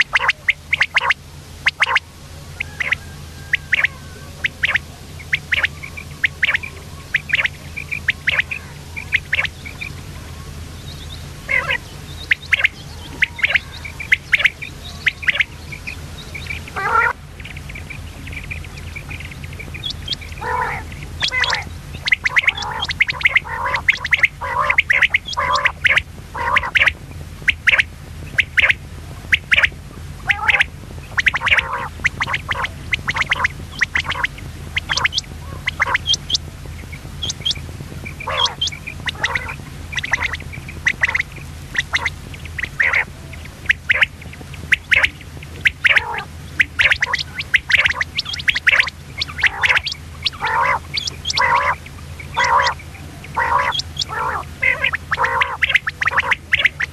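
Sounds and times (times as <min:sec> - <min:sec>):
quail calling: 0:00.0 - 0:56.9
steady low hum: 0:00.0 - 0:56.9.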